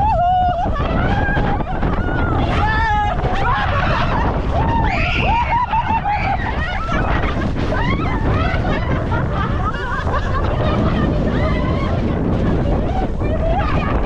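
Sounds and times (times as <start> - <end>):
boat motor rumbling: 0.0 - 14.0
people shouting and laughing: 0.0 - 14.0
wind buffeting microphone: 0.0 - 14.0.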